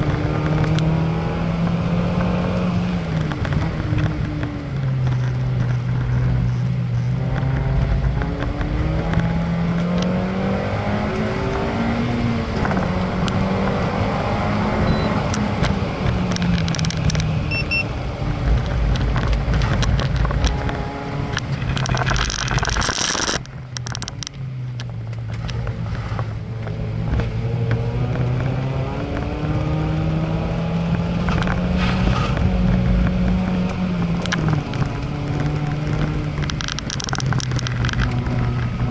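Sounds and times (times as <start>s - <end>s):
racing engine revving: 0.0s - 23.4s, 25.6s - 38.9s.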